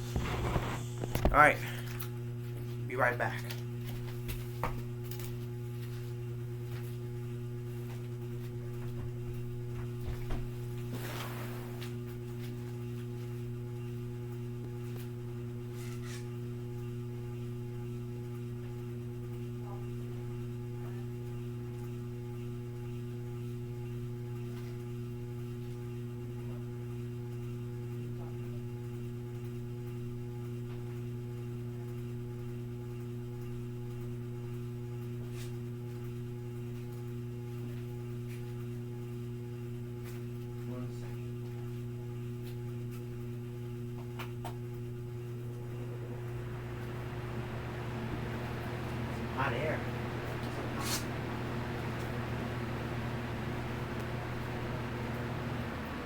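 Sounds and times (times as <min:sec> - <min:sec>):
electric fan motor hum: 0:00.0 - 0:56.0.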